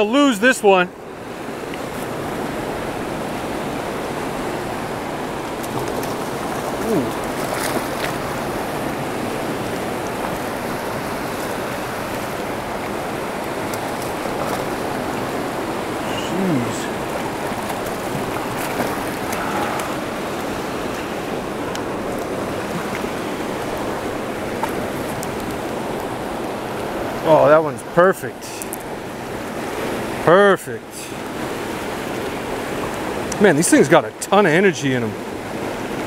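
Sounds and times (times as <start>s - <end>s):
river rushing over rock: 0.0s - 36.0s.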